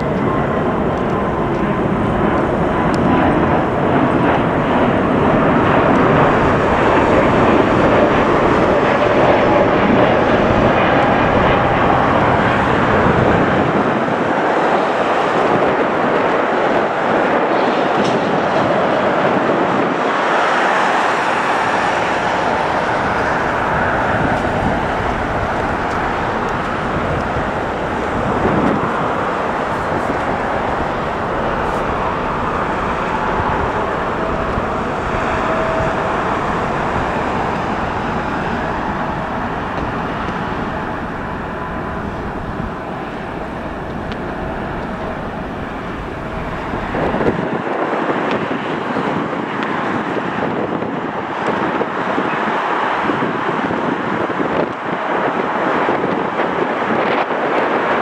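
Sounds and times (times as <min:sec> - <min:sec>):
road traffic: 0:00.0 - 0:57.8
distant jet engines: 0:00.0 - 0:58.0
wind on microphone: 0:00.0 - 0:58.0.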